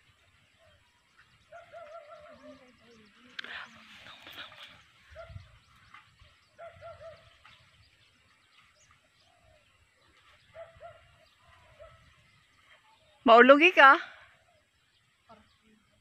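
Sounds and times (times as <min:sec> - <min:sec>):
low bird calls: 0:00.0 - 0:13.3.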